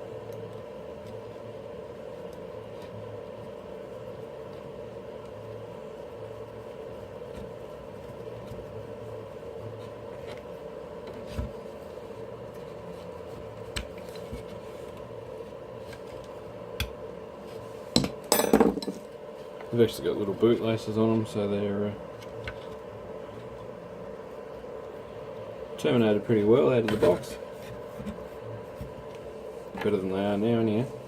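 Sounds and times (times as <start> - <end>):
background hum: 0.0 - 31.0.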